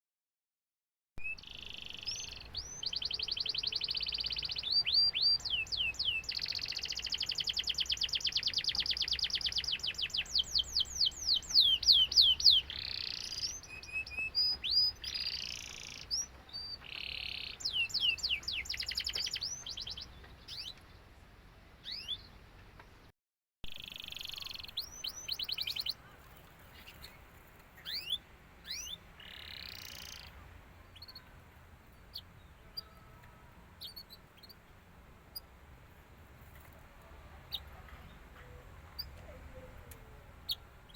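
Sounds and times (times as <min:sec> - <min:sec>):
canary singing trills: 0:01.2 - 0:21.0, 0:21.8 - 0:22.4, 0:23.7 - 0:35.6, 0:36.4 - 0:40.9.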